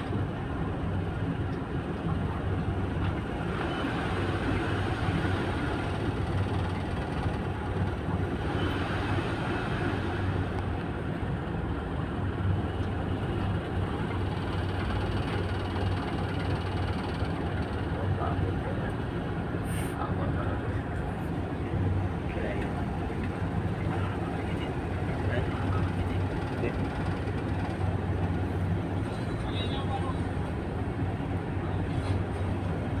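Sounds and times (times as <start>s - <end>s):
diesel engines droning: 0.0s - 33.0s.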